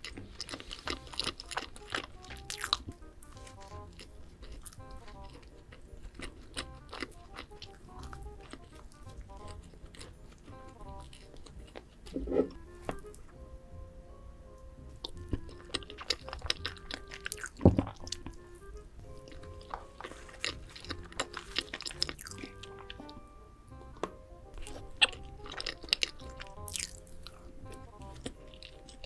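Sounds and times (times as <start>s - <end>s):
crunchy food chewing: 0.0s - 13.6s, 14.5s - 29.0s
soft background music: 0.0s - 29.0s.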